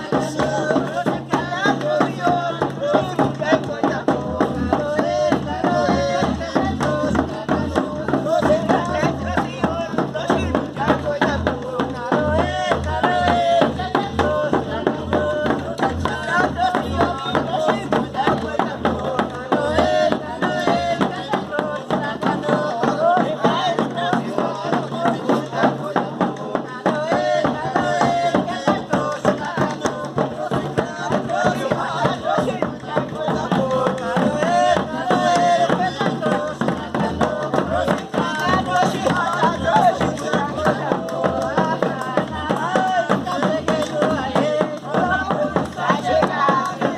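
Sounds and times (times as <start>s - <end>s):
percussion beat: 0.0s - 46.9s
voices singing a melody: 0.0s - 46.9s.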